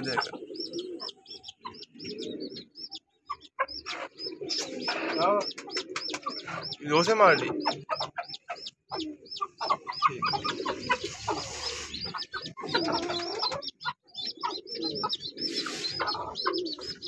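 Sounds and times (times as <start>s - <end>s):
hen clucking low: 0.0s - 2.7s, 3.3s - 17.0s
chick peeping rapidly: 0.0s - 17.0s.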